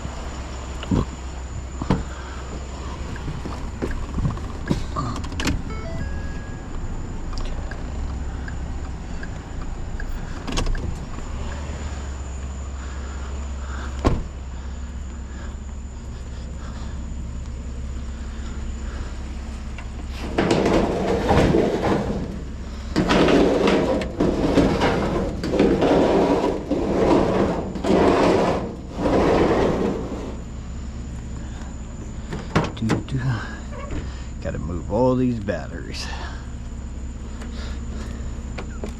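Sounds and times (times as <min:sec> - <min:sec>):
truck engine humming: 0:00.0 - 0:38.9.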